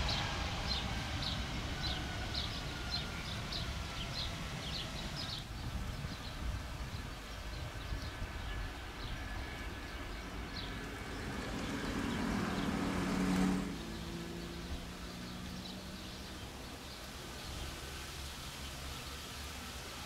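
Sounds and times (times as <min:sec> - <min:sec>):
distant jet engines humming: 0:00.0 - 0:20.0.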